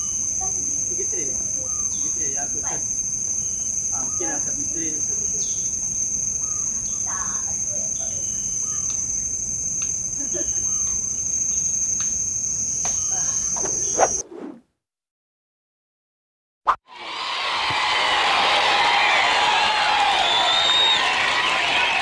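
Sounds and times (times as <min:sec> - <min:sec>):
insects droning: 0:00.0 - 0:14.2, 0:17.4 - 0:22.0.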